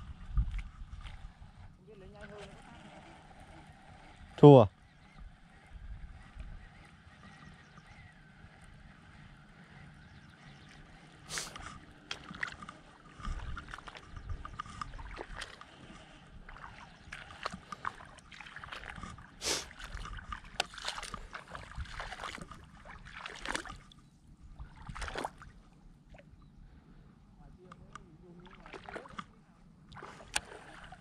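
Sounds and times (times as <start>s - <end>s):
shallow water splashing: 0.0s - 26.4s, 28.2s - 31.0s.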